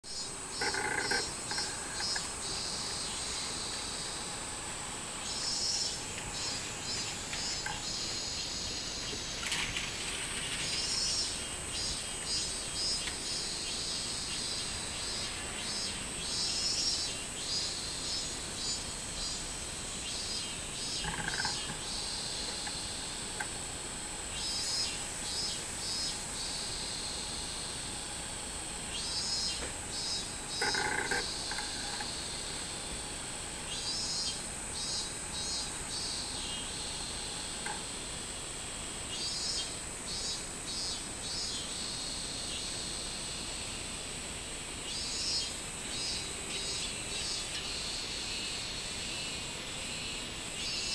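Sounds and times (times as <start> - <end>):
cicadas singing: 0.0 - 50.9.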